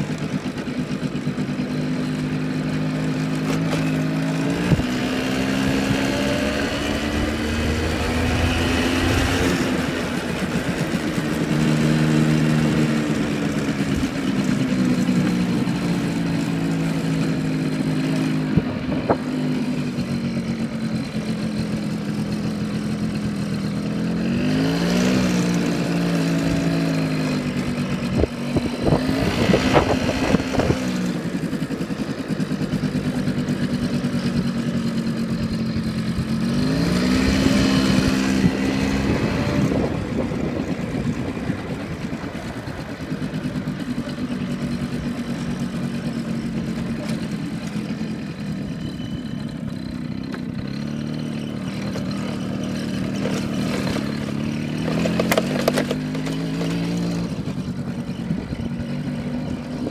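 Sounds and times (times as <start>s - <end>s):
motor scooter engine running: 0.0s - 59.9s.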